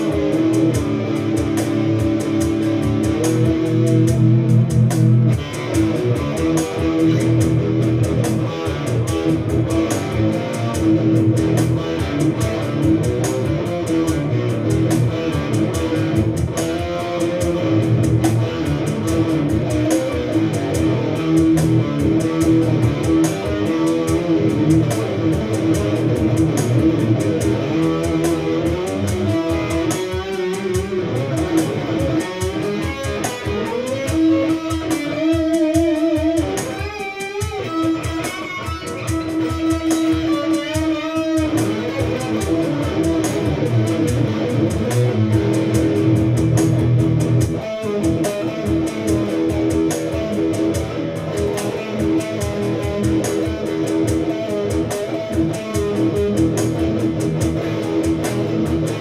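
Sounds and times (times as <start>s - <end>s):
electric guitar improvising: 0.0s - 59.0s.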